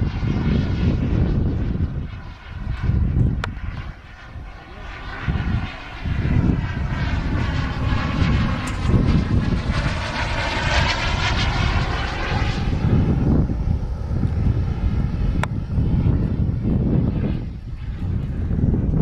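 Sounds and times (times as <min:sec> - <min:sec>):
model jet engine flying past: 0:00.0 - 0:19.0.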